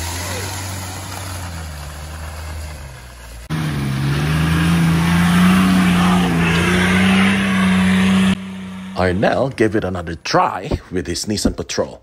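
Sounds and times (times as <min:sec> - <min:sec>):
engine revving hard under load: 0:00.0 - 0:09.8.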